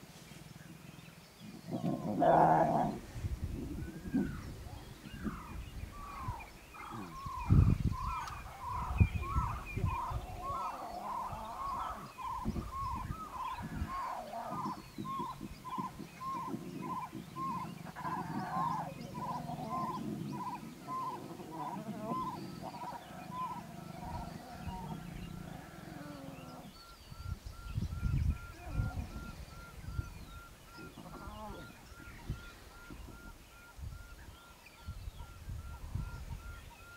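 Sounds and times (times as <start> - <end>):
lion cubs growling: 1.5 - 26.9, 28.4 - 33.3.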